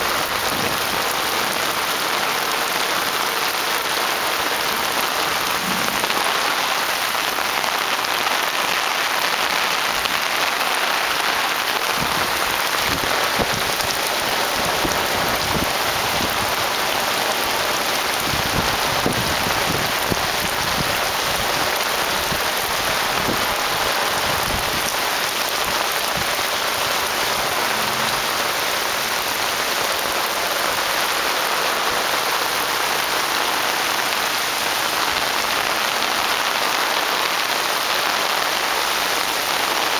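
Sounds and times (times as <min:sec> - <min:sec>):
heavy rain on pavement and foliage: 0:00.0 - 0:39.9.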